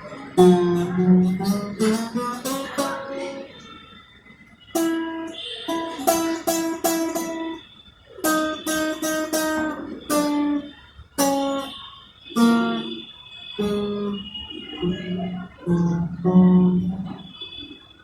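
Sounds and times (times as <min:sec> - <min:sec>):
guitar plucked single notes: 0:00.0 - 0:03.6, 0:04.7 - 0:07.6, 0:08.2 - 0:11.8, 0:12.4 - 0:13.0, 0:13.6 - 0:17.3.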